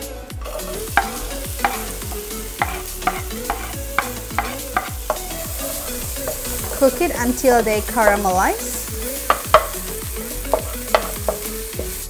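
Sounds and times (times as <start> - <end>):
vegetables sizzling in a wok: 0.0 - 12.0
wooden spatula scraping a pan: 0.4 - 9.8, 10.4 - 12.0.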